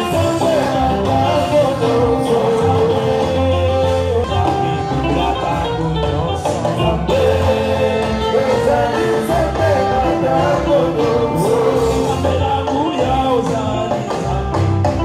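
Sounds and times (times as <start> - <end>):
bass line: 0.0 - 15.0
guitar: 0.0 - 15.0
voices singing: 0.0 - 15.0.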